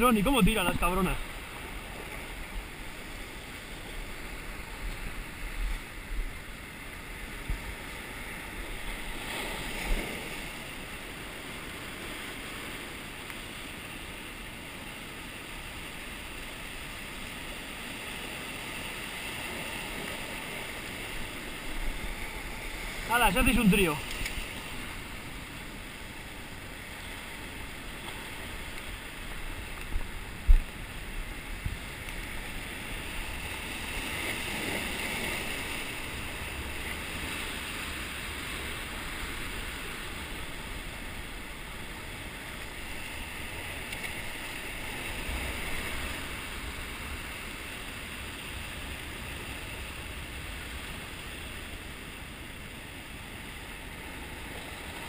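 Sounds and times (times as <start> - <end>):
sea surf washing over rocks: 0.0 - 55.0.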